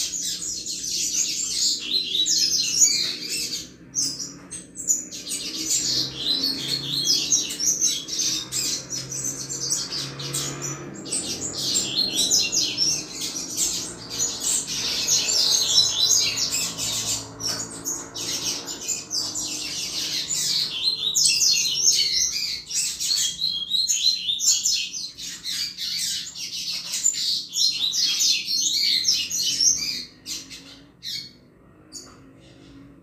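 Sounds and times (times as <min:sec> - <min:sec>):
bird singing high chirping notes: 0:00.0 - 0:31.4.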